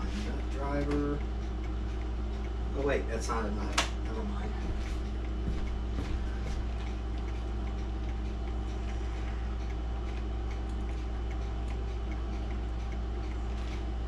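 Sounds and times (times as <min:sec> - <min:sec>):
mechanical clock ticking: 0:00.0 - 0:14.0
steady low hum: 0:00.0 - 0:14.0.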